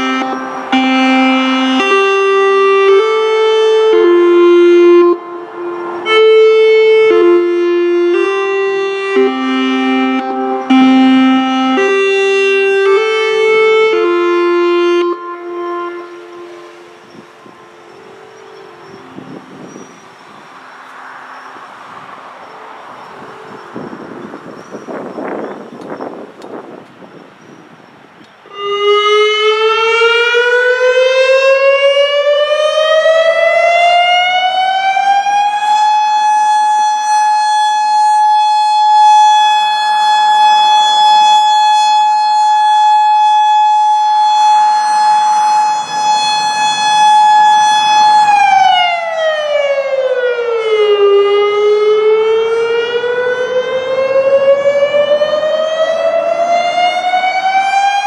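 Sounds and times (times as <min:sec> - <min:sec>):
electronic warning siren rising and falling: 0:00.0 - 0:20.3, 0:28.5 - 0:58.0.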